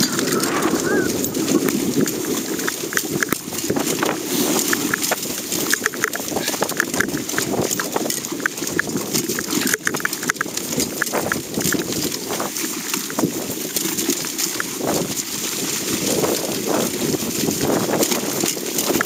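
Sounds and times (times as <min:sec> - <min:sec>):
sled clicks and knocks: 0:00.0 - 0:19.0
sled scraping through vegetation: 0:00.0 - 0:19.0.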